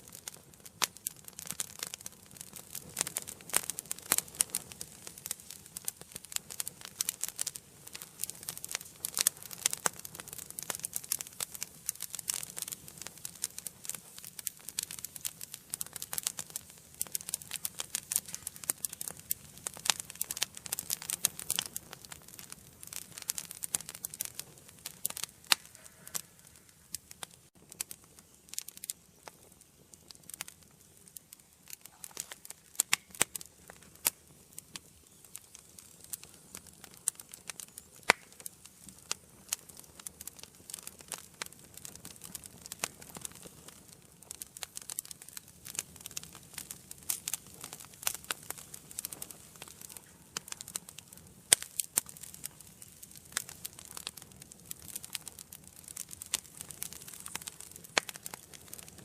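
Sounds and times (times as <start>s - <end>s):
flames hissing: 0.0s - 59.0s
wood fire crackling: 0.0s - 59.0s.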